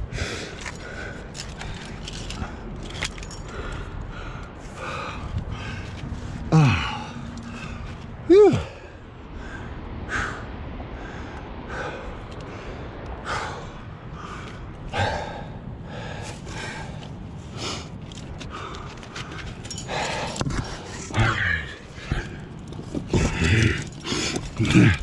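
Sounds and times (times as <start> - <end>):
climber breathing hard: 0.0 - 25.0.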